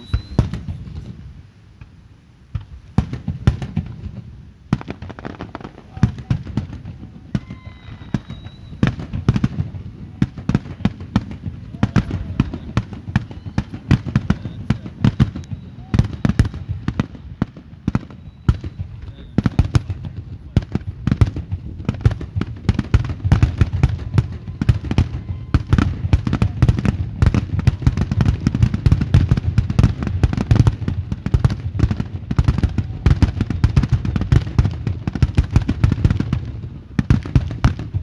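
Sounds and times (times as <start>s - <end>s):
fireworks booms and bangs: 0.0s - 38.0s.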